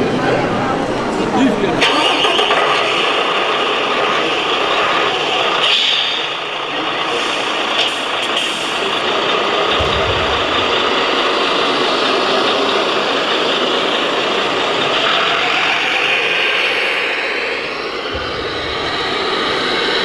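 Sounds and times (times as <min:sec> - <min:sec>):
diesel truck engine sound: 0:00.0 - 0:20.0.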